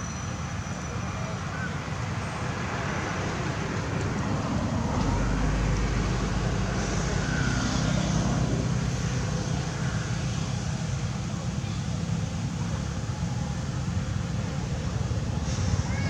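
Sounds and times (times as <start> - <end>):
road traffic rumble: 0.1 - 16.0.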